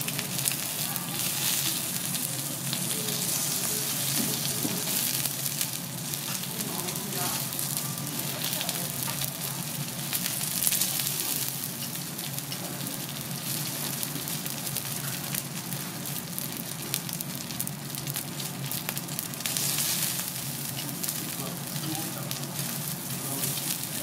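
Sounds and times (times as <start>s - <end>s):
meat sizzling on a griddle: 0.0s - 24.0s.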